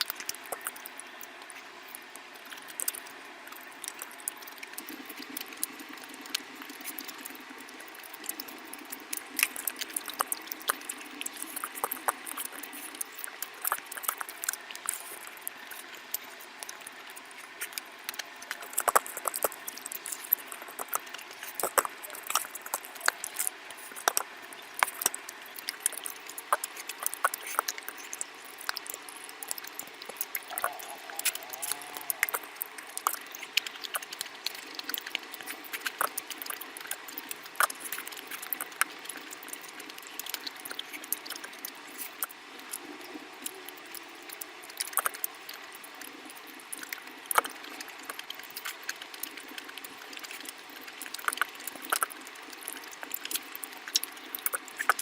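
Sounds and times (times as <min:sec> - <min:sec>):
wet eating squelches and smacks: 0:00.0 - 0:55.0.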